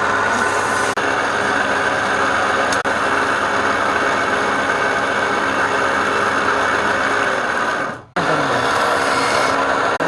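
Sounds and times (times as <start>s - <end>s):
machine motor running: 0.0s - 10.0s.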